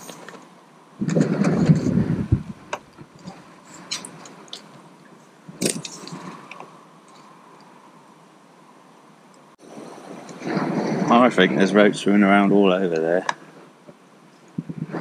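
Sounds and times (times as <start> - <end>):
loud rumbling noise: 0.0 - 9.0, 9.6 - 13.0.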